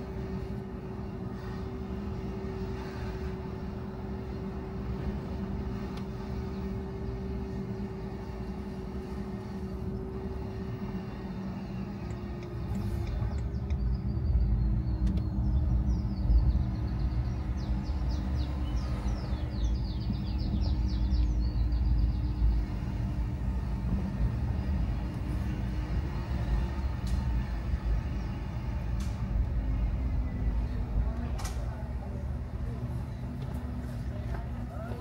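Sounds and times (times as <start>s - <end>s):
car engine and tyre rumble: 0.0s - 35.0s
faint engine hum: 0.0s - 35.0s.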